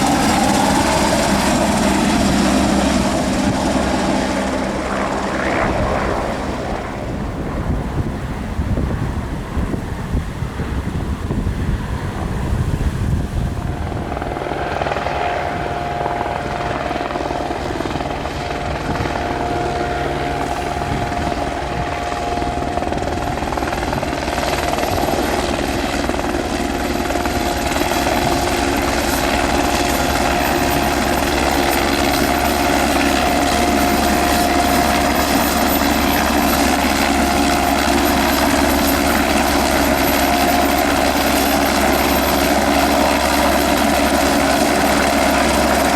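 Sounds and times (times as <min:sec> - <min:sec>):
helicopter rotor and engines: 0:00.0 - 0:45.9
high turbine whine: 0:00.0 - 0:45.9.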